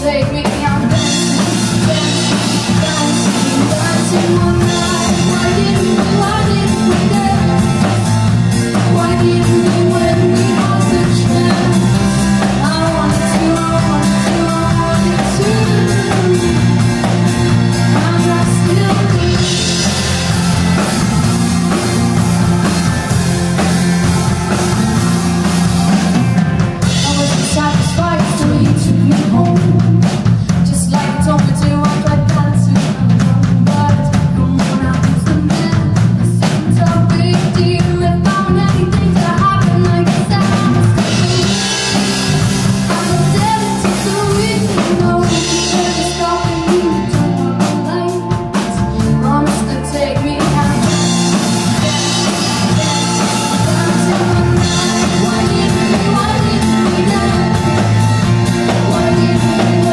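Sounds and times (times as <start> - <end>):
woman singing: 0.0 - 21.1, 26.8 - 59.9
drum kit beats: 0.0 - 59.9
keyboard: 0.0 - 59.9.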